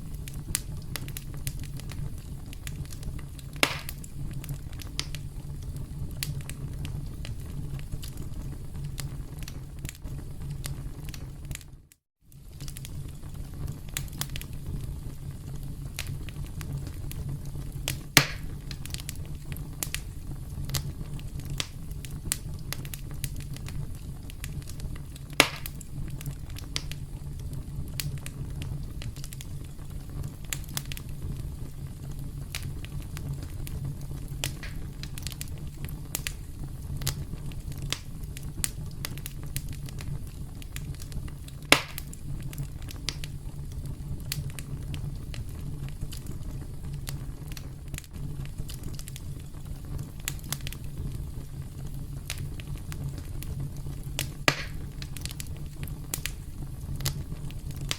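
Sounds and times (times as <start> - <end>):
campfire crackling: 0.0 - 57.9
low rumble of burning: 0.0 - 57.9
sharp fire pops: 0.0 - 57.9.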